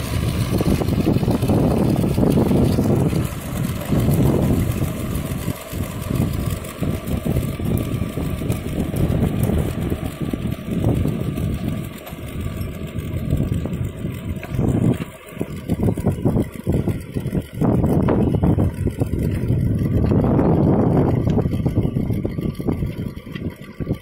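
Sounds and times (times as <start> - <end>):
rotary tiller in soil: 0.0 - 24.0
tractor engine running: 0.0 - 24.0.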